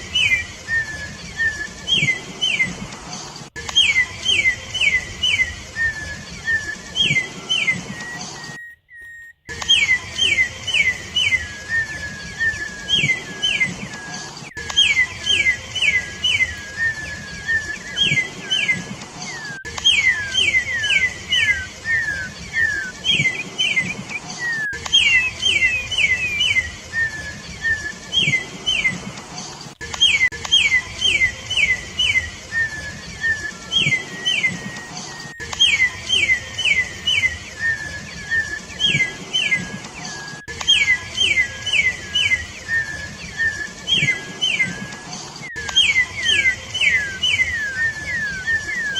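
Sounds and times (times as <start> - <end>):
bird singing whistled notes: 0.0 - 48.9.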